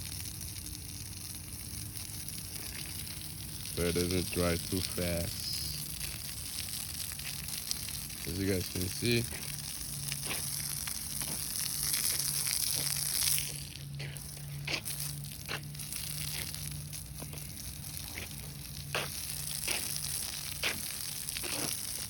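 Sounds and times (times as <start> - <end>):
hose spraying water: 0.0 - 22.0
low steady hum: 0.0 - 22.0.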